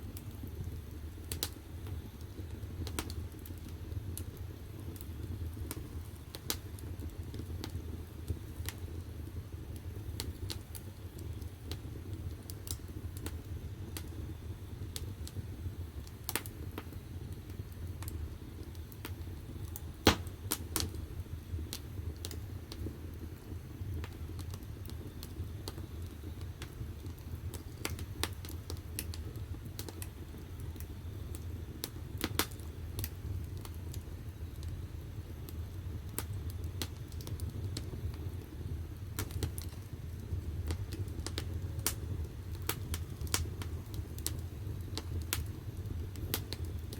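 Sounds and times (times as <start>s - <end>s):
firewood crackling and popping: 0.0s - 46.9s
low fire rumble: 0.0s - 46.9s.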